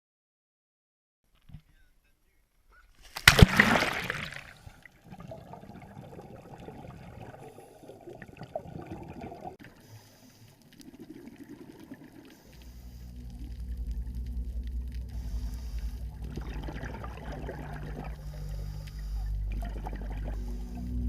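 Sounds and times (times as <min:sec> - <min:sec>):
water sloshing and bubbling: 0:03.0 - 0:21.0
low underwater rumble: 0:03.5 - 0:21.0.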